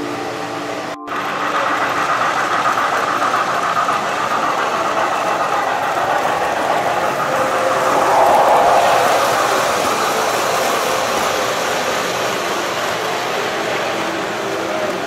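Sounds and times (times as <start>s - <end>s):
model train wheels rumbling: 0.0s - 15.0s.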